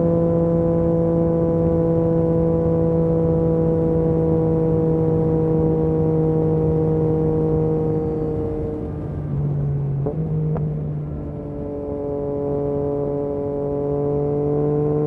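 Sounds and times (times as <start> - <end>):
motorcycle engine at steady revs: 0.0 - 15.0.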